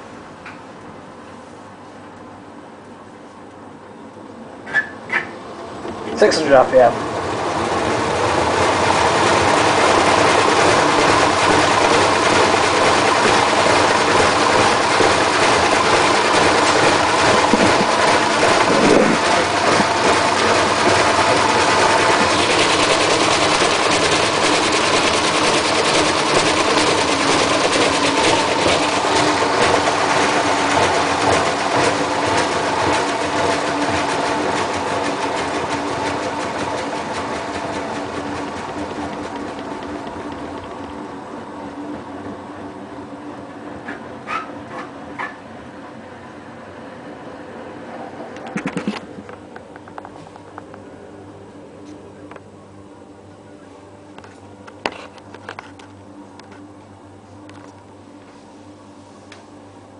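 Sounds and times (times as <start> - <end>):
washing machine spinning: 4.4 - 53.5.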